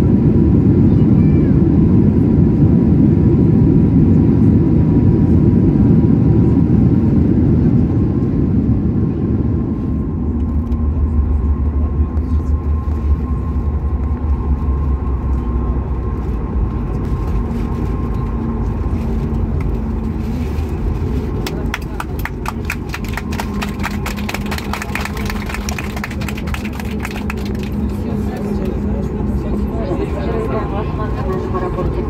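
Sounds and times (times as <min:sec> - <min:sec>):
faint jet whine: 0:00.0 - 0:32.0
jet engines rumbling: 0:00.0 - 0:32.0.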